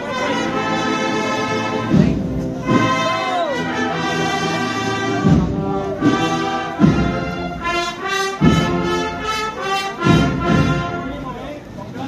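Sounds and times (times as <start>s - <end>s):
brass band playing a march: 0.0s - 11.8s
heavy low drum beats: 0.2s - 11.8s.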